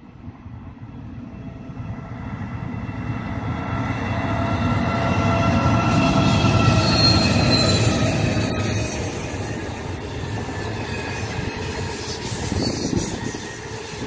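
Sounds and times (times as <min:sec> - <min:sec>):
locomotive rumble and whine: 0:00.0 - 0:14.0
train wheels rumbling on rails: 0:00.0 - 0:14.0.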